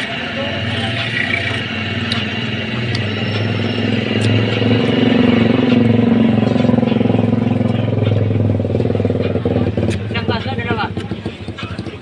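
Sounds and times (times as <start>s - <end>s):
coconut grinder motor drone: 0.0s - 12.0s.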